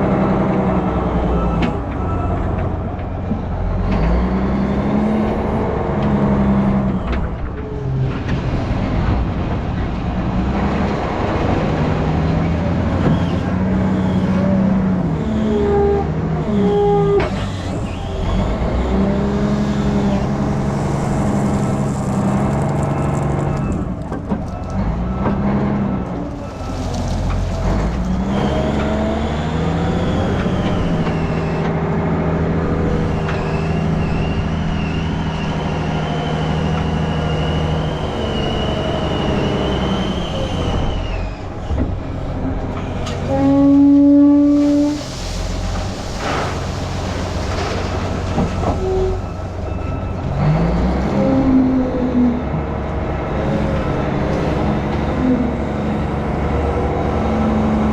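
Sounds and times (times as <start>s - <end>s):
heavy diesel engine under load: 0.0s - 57.9s.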